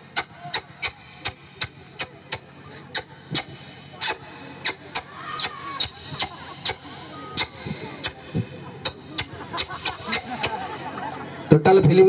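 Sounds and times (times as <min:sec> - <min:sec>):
faint sound system hum: 0:00.0 - 0:12.0.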